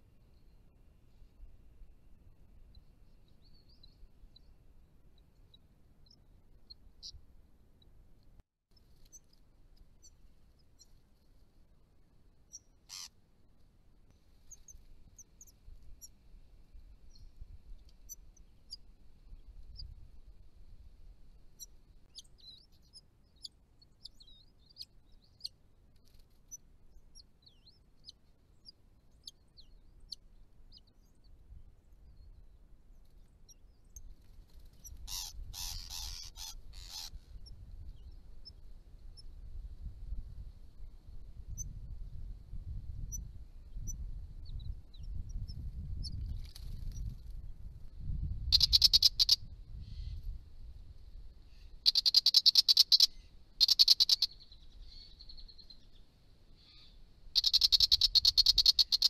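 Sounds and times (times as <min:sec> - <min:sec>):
small birds chirping: 0:02.6 - 0:11.5, 0:12.3 - 0:13.2, 0:14.0 - 0:41.9, 0:42.9 - 0:50.4, 0:51.2 - 0:59.0.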